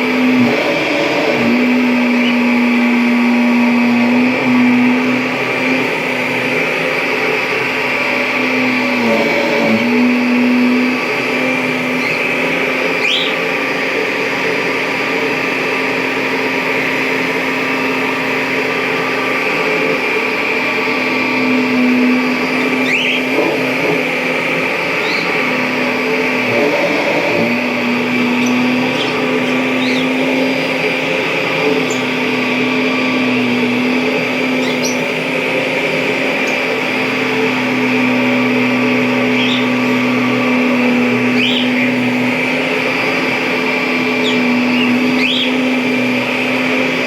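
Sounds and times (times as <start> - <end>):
upright vacuum cleaner running: 0.0 - 47.0.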